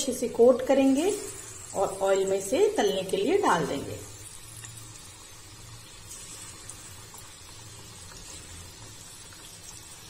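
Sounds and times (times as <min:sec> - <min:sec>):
deep-frying sizzle and bubbling: 0:00.0 - 0:10.0
faint oil crackles: 0:00.8 - 0:10.0.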